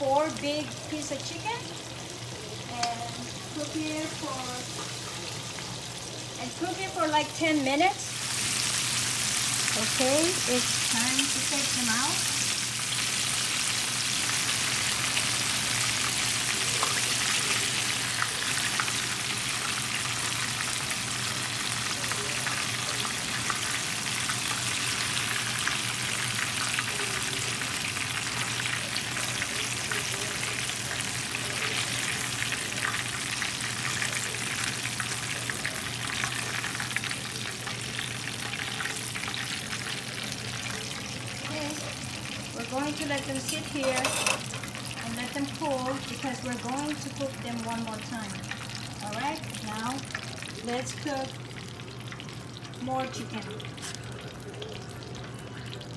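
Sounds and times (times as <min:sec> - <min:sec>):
chicken sizzling in hot oil: 0:00.0 - 0:55.9.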